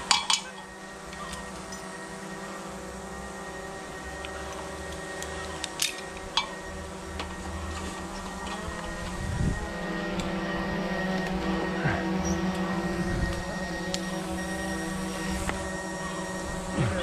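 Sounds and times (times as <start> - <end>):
steady droning background: 0.0 - 17.0.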